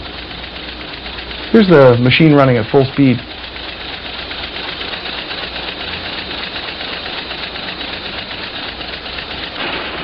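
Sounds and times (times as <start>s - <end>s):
machine clattering rapidly: 0.0s - 10.0s.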